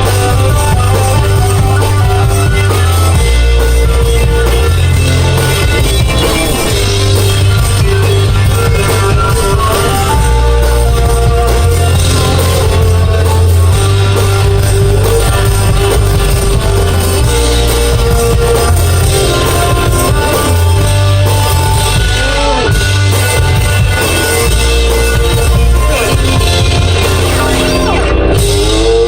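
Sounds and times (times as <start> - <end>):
deep bass notes: 0.0 - 29.0
drum beats: 0.0 - 29.0
electric guitar: 0.0 - 29.0.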